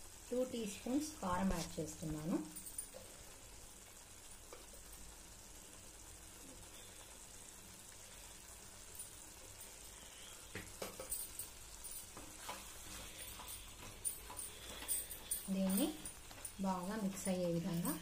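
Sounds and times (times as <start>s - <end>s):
chutney simmering in a pan: 0.0s - 18.0s.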